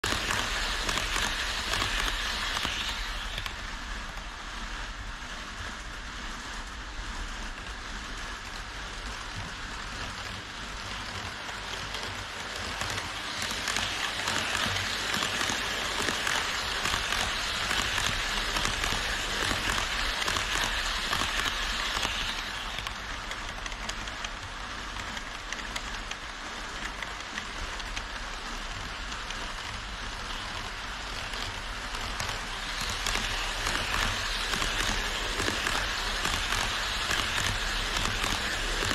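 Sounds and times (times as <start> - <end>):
model train wheels rolling: 0.0 - 38.9.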